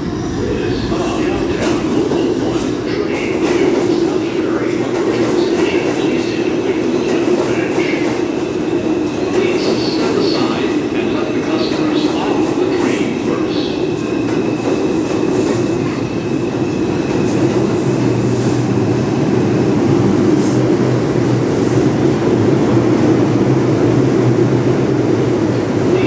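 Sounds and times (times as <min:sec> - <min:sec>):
subway train wheels rumbling: 0:00.0 - 0:26.0.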